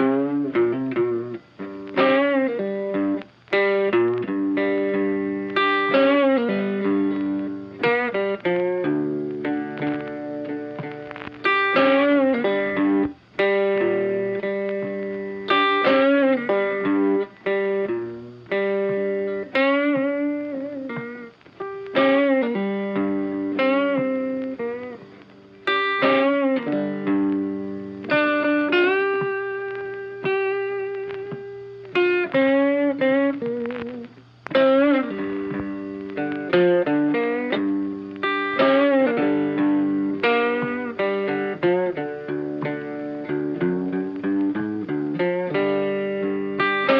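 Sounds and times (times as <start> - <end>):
guitar music: 0.0 - 46.9.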